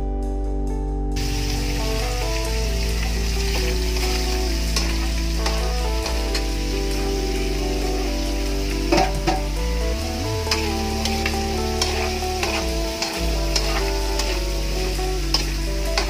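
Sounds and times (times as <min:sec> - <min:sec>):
guitar music: 0:00.0 - 0:16.0
spatula scraping wok: 0:01.2 - 0:07.5, 0:08.3 - 0:16.0
food sizzling in a wok: 0:01.2 - 0:16.0.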